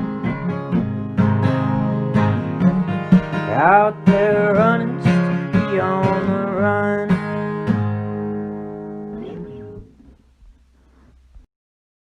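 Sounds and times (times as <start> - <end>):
acoustic guitar strumming: 0.0 - 10.7.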